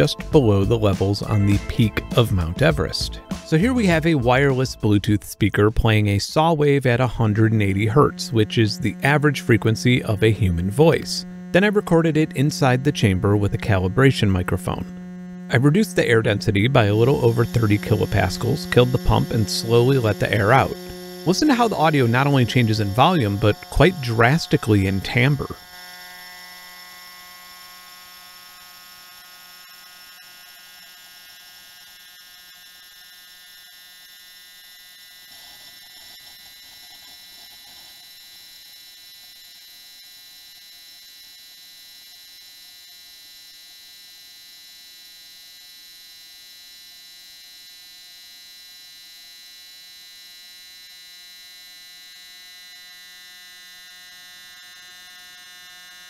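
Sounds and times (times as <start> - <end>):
buzzing tone from speaker: 0.0 - 56.0.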